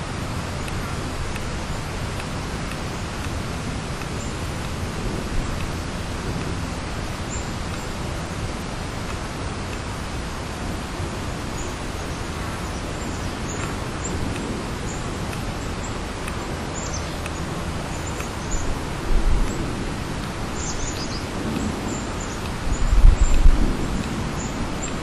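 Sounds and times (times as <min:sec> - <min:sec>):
steady outdoor hiss: 0:00.0 - 0:25.0
small birds chirping: 0:00.3 - 0:08.8, 0:10.5 - 0:25.0.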